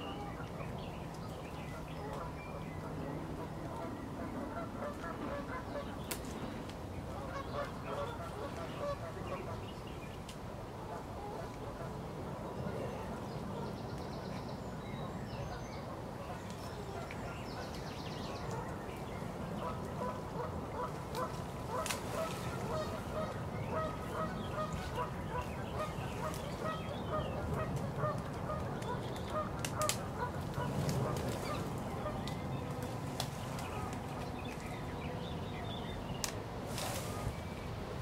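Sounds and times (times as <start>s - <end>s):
low wind rumble: 0.0s - 38.0s.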